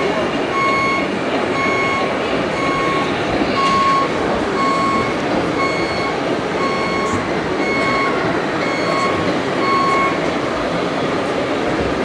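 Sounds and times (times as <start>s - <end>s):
reversing warning beeper: 0.0s - 10.3s.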